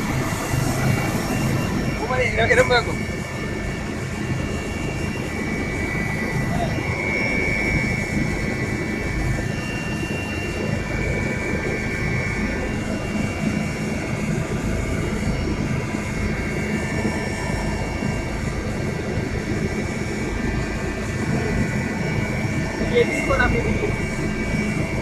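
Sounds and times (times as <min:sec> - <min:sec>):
helicopter running: 0:00.0 - 0:25.0.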